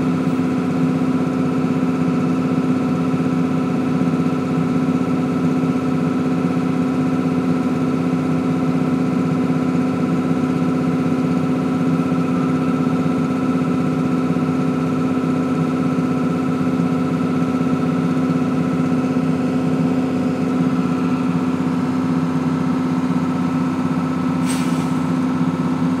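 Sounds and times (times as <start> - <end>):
grain extractor machine drone: 0.0 - 26.0.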